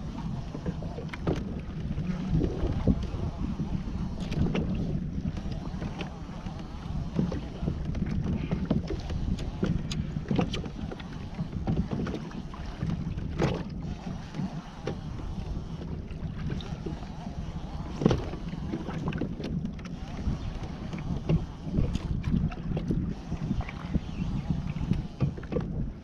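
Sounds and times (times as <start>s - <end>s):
water sloshing against hull: 0.0s - 26.0s
wind buffeting microphone: 0.0s - 26.0s
clicks and knocks from boat: 0.4s - 3.4s, 4.0s - 17.0s, 17.7s - 24.1s, 24.7s - 26.0s.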